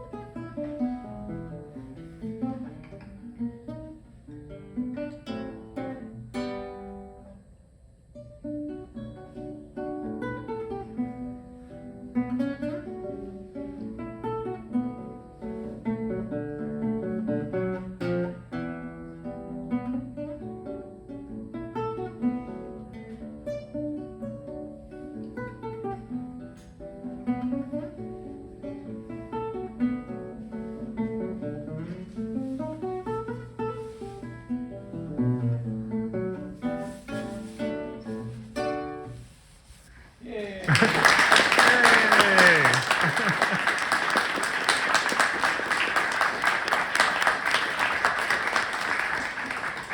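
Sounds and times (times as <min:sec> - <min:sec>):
solo classical guitar: 0:00.0 - 0:40.7.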